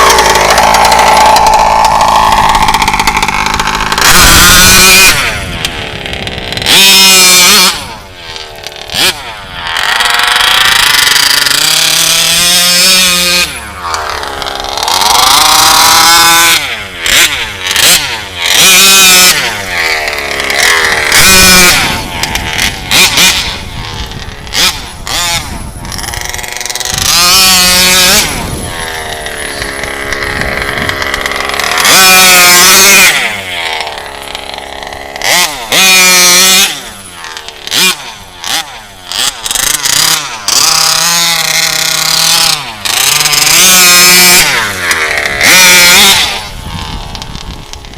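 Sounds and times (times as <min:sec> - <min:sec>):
model car engine revving: 0:00.0 - 0:47.9.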